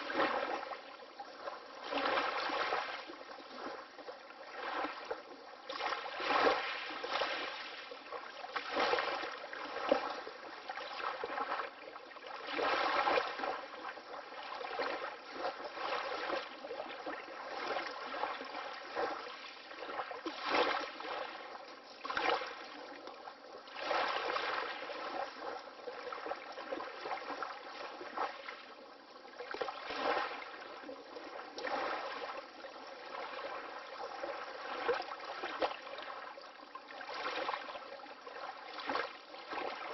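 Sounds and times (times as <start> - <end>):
water lapping in small waves: 0.0 - 39.9.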